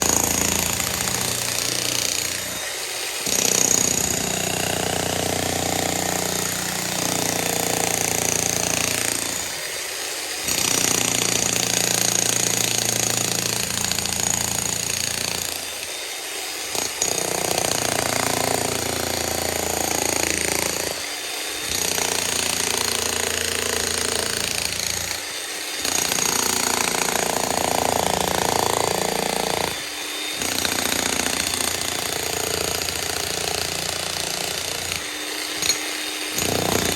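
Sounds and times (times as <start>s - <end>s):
hammer drill chiselling concrete: 0.0s - 36.9s.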